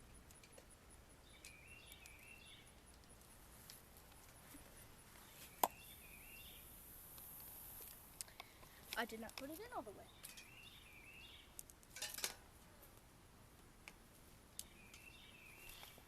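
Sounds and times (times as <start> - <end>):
faint birds chirping: 0.0 - 11.9, 12.5 - 16.0.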